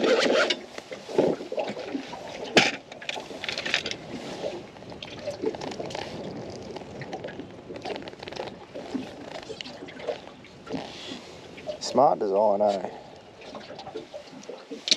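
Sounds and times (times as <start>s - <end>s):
fishing tackle rustling: 0.0s - 14.9s.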